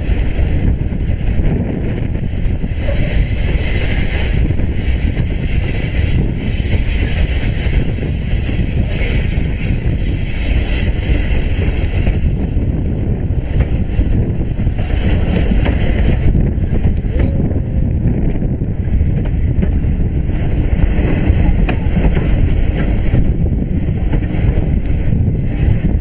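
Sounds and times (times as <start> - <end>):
train running rumble: 0.0 - 26.0
wind buffeting microphone: 0.0 - 26.0.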